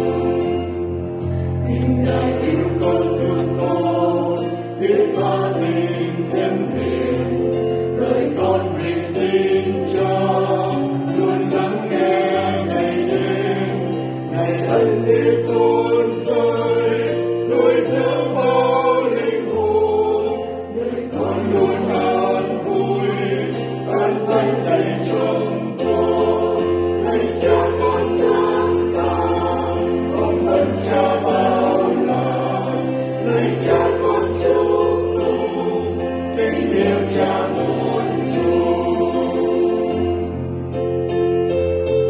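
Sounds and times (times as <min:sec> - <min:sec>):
mixed choir singing mass: 0:00.0 - 0:40.8.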